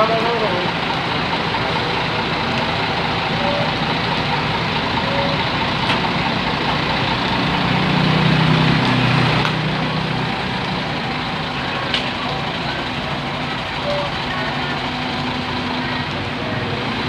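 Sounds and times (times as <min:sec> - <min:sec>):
heavy vehicle engine drone: 0:00.0 - 0:17.0
steady road traffic: 0:00.0 - 0:17.0.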